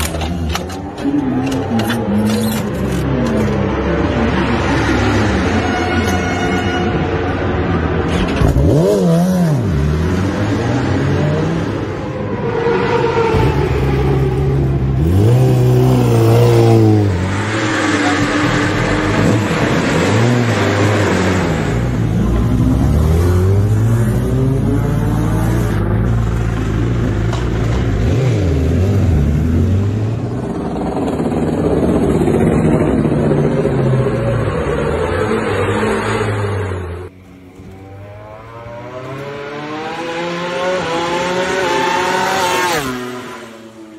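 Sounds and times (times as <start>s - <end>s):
superbike engines idling and revving: 0.0s - 5.9s, 6.9s - 43.9s.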